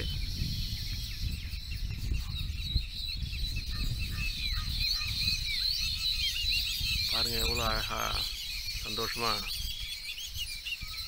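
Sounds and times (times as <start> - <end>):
birds chattering with high chirps: 0.0 - 11.0.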